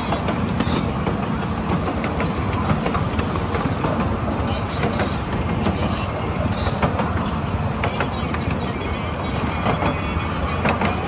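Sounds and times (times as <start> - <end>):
rumble of wheels on rail: 0.0 - 11.0
wheels clicking over rail joints: 0.0 - 11.0.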